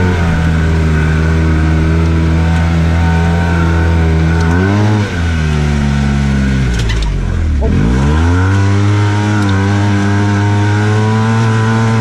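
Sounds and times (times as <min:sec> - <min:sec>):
side-by-side engine running: 0:00.0 - 0:12.0.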